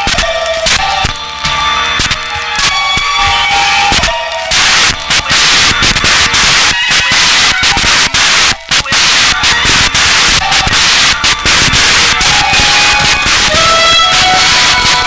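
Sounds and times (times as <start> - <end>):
harsh turntable static hiss: 0.0 - 15.0.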